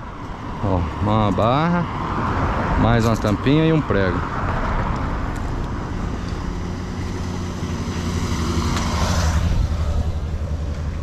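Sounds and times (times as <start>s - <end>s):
vehicle engine passing: 0.7s - 11.0s.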